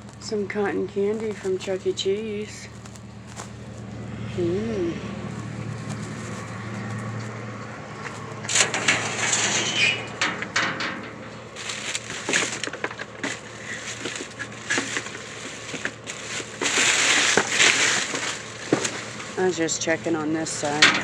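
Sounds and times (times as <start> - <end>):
rubbish bags crackling and rustling: 0.0 - 4.1, 5.2 - 21.0
low hum: 0.0 - 21.0.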